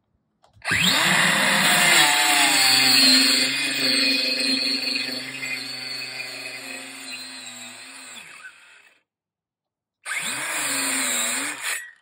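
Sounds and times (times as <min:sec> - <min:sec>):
circular saw cutting wood: 0:00.7 - 0:09.0, 0:10.1 - 0:12.0.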